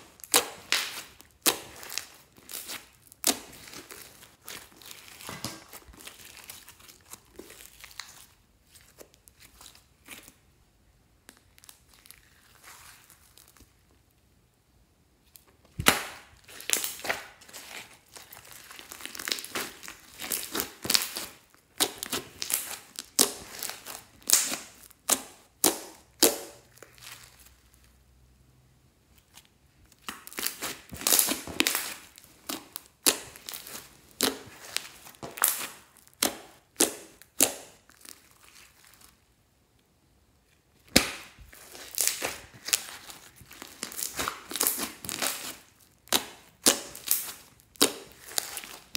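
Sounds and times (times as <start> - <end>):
slime squished by hand: 0.0 - 10.4, 15.7 - 27.9, 29.2 - 39.2, 40.8 - 48.9.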